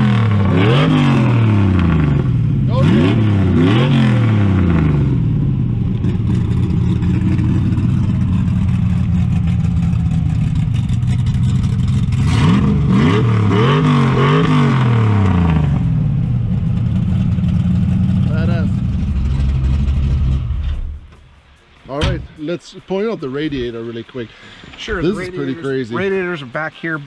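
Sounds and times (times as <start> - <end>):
engine idling and revving: 0.0 - 22.4.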